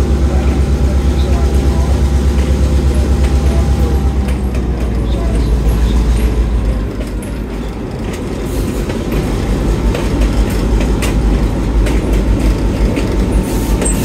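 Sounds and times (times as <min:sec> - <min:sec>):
train rumbling on track: 0:00.0 - 0:14.0
wheels clicking over rail joints: 0:00.0 - 0:14.0.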